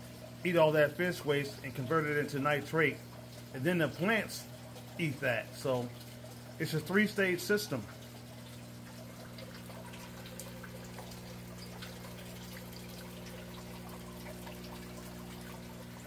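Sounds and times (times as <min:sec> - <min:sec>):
water trickling and dripping: 0:00.0 - 0:16.0.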